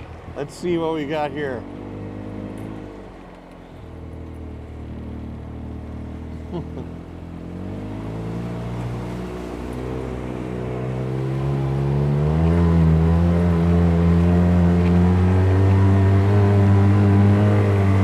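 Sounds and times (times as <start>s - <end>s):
utility vehicle engine accelerating: 0.0s - 18.0s.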